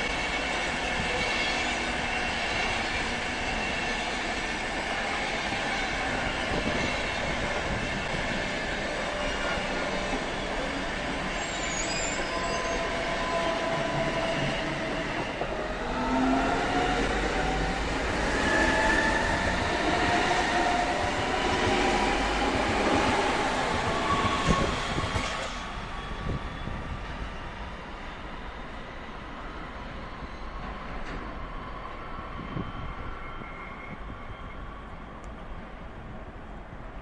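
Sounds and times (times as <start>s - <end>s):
train wheels on rails: 0.0s - 36.4s.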